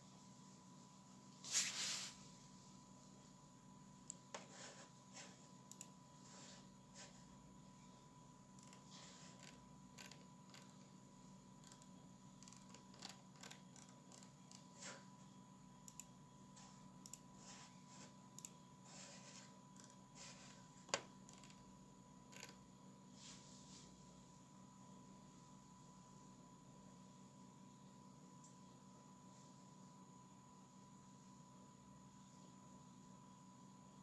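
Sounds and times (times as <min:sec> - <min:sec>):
faint hum with high tone: 0:00.0 - 0:34.0.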